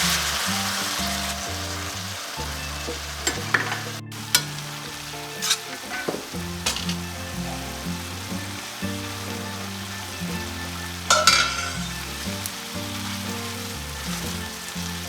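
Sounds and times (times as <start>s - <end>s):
oil sizzling in a frying pan: 0.0s - 15.0s
utensil clicking against pan: 2.4s - 15.0s.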